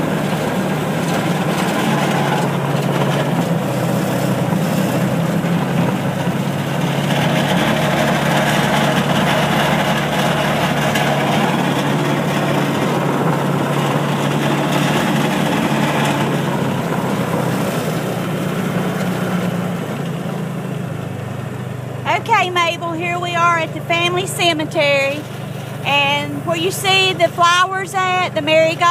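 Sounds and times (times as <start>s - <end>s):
small vehicle engine droning: 0.0s - 28.9s.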